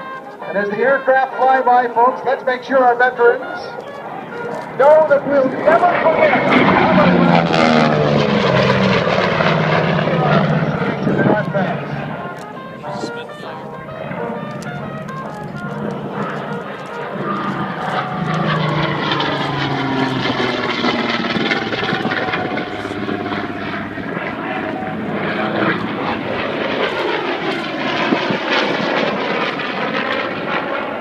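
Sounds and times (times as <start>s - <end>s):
propeller plane flying past: 0.0s - 31.0s.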